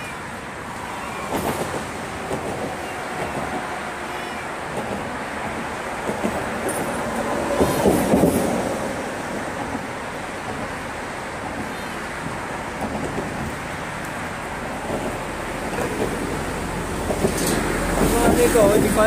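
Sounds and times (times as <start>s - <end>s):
rumbling road noise: 0.0s - 19.0s.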